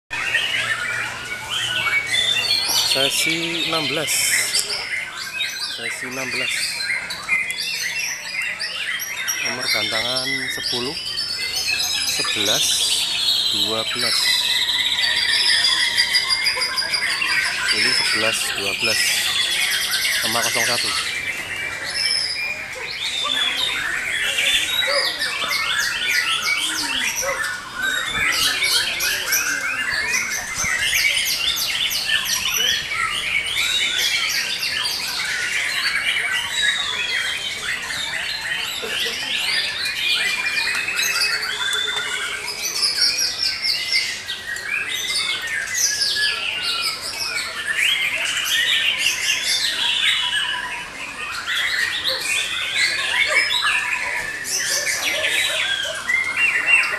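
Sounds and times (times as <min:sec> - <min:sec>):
songbirds singing: 0:00.1 - 0:56.9.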